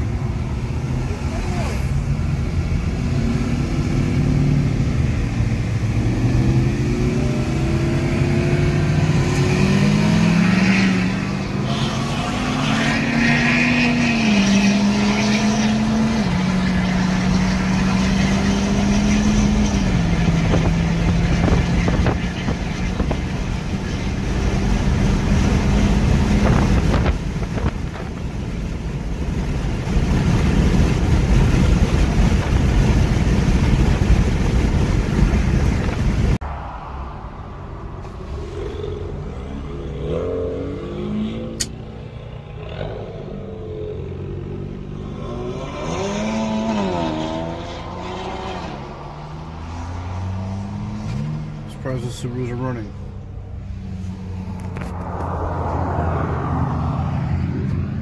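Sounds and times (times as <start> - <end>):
road rumble: 0.0 - 58.0
car engine accelerating through gears: 0.6 - 36.4, 38.0 - 58.0.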